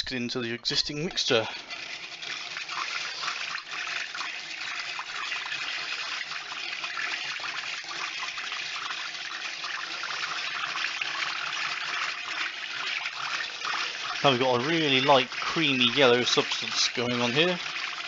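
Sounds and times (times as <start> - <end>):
rotary egg beater whisking: 1.0 - 18.0.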